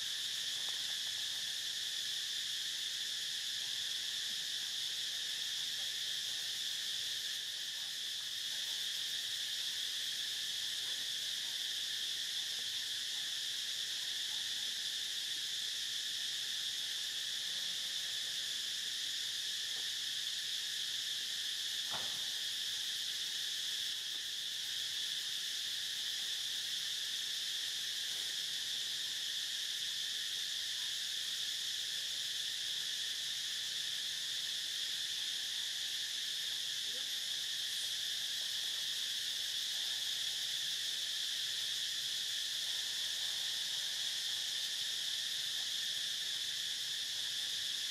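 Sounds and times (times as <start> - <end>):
insect chorus drone: 0.0 - 47.9.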